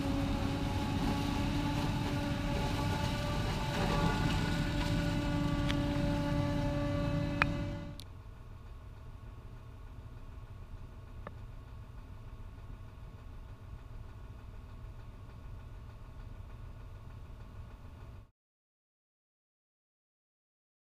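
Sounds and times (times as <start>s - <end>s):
muffled tractor engine droning: 0.0s - 18.3s.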